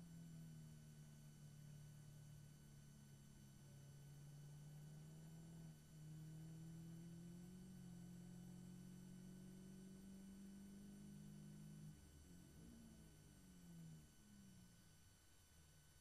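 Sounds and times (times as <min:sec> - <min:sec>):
faint race car engine: 0:00.0 - 0:16.0.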